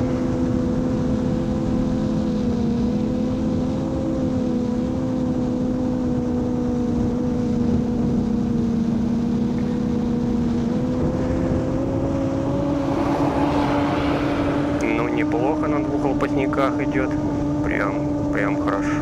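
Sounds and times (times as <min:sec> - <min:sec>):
quadcopter buzzing hum: 0:00.0 - 0:19.0.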